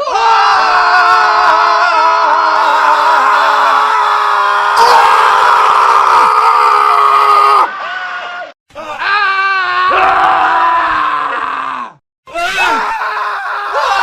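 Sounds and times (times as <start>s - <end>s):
man screaming: 0.1s - 14.0s.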